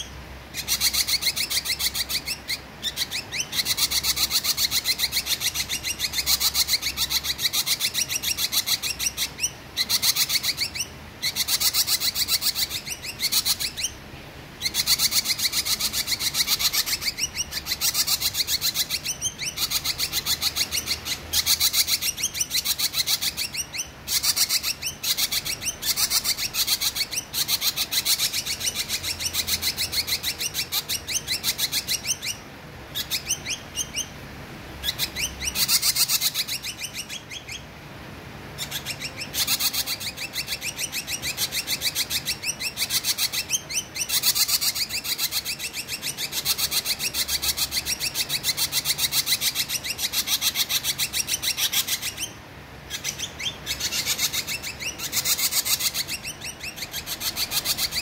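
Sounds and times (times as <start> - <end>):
bird singing rapid chirps: 0.0 - 37.8, 38.5 - 58.0.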